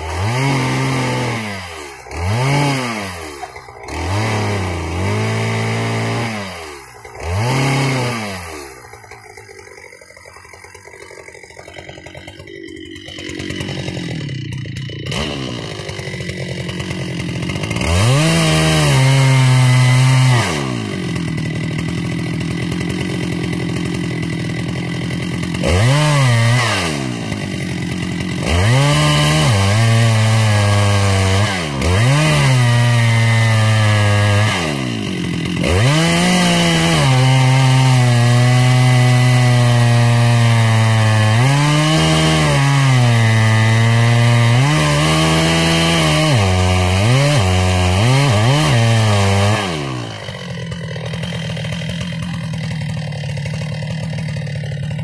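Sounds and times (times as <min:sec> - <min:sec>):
chainsaw cutting wood: 0:00.0 - 0:55.0
chainsaw idling: 0:00.0 - 0:55.0.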